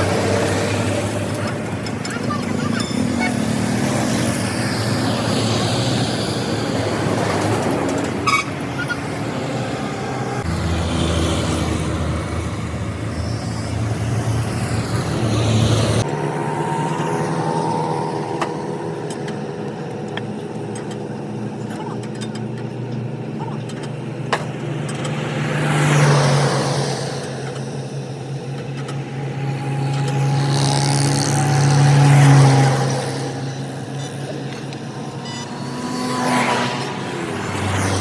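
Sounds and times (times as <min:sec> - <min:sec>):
road traffic: 0:00.0 - 0:38.0
vehicle engines running: 0:00.0 - 0:38.0.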